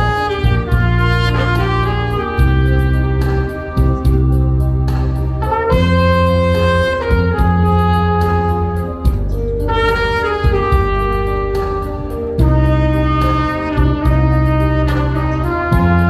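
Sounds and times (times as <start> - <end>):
bass and drums backing track: 0.0 - 16.0
saxophone melody: 0.0 - 16.0.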